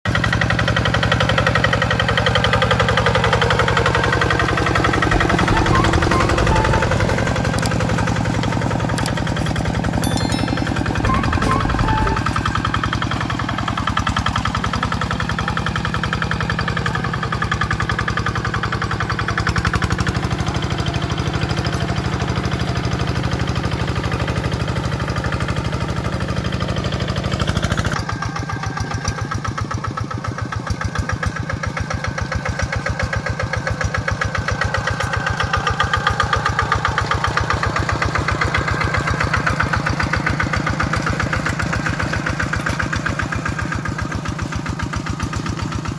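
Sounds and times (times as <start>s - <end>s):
diesel tractor engine running: 0.1s - 10.0s, 10.8s - 45.9s.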